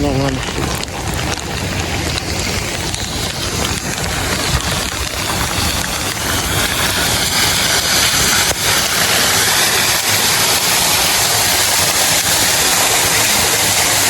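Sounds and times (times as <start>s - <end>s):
floodwater rushing into drains: 0.0s - 14.0s
heavy rain: 0.0s - 14.0s.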